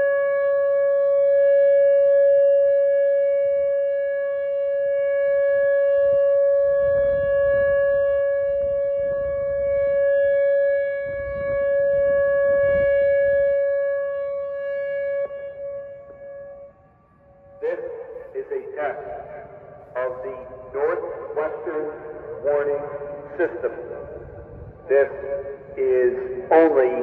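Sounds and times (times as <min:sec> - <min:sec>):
warning siren steady tone: 0:00.0 - 0:27.0.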